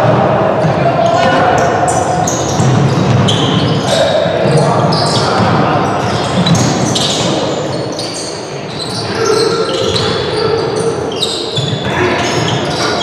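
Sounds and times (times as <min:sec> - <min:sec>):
players and spectators voices: 0:00.0 - 0:13.0.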